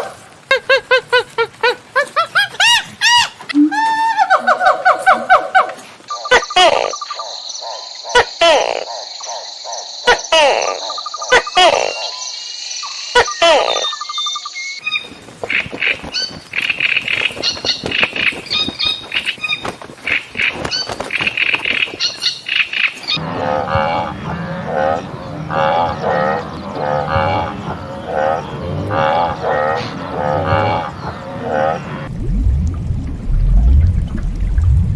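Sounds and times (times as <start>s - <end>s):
animal calls: 0.0s - 32.1s.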